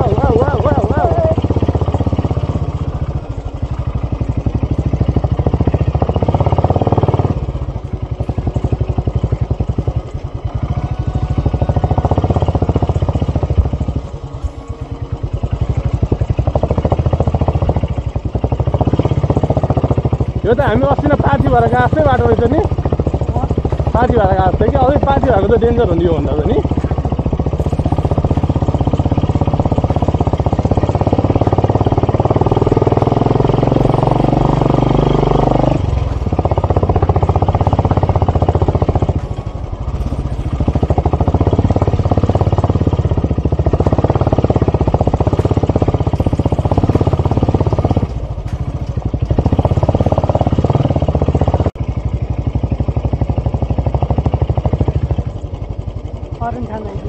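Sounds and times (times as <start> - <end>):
vehicle engine running under load: 0.0 - 57.0.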